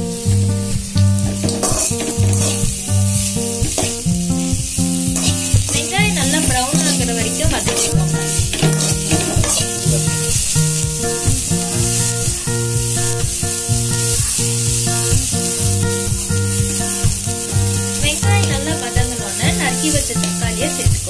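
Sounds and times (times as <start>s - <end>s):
background music with low notes: 0.0s - 21.0s
onions sizzling in hot oil: 0.0s - 21.0s
metal ladle stirring in pan: 1.2s - 18.7s.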